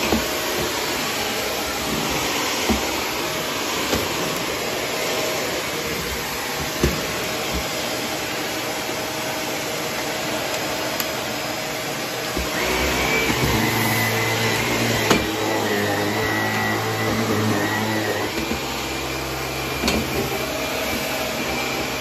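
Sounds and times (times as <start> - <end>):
upright vacuum cleaner running: 0.0 - 22.0.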